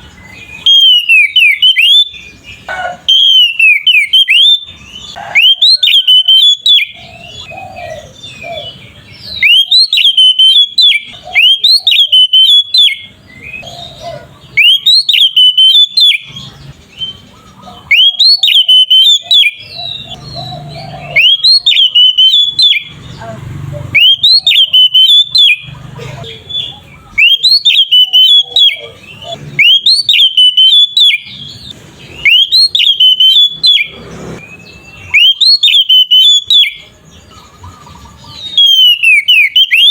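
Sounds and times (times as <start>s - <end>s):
magpie-robin whistled song: 0.0s - 39.9s.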